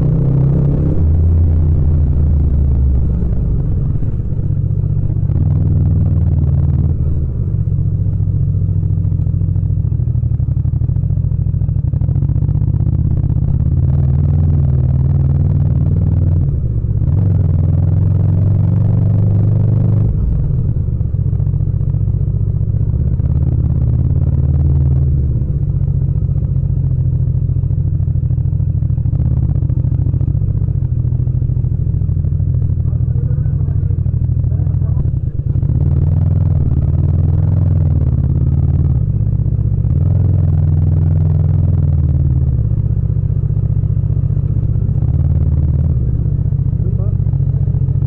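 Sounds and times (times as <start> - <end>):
motorcycle engine at low revs: 0.0 - 48.0.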